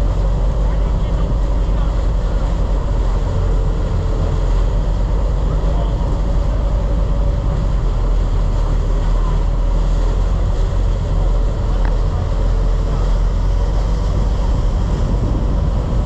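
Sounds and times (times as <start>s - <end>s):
boat engine running: 0.0s - 16.0s
wake washing: 0.0s - 16.0s
wind on microphone: 0.0s - 16.0s.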